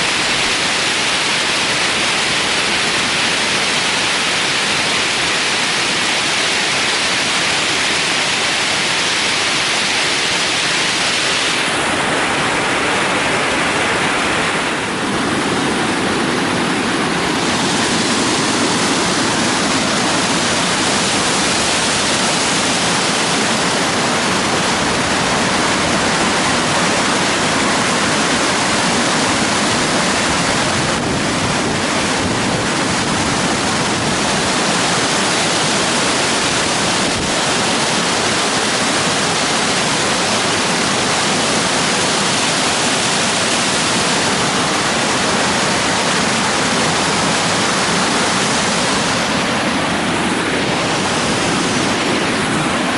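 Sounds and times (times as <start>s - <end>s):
water falling over waterfall: 0.0s - 52.9s.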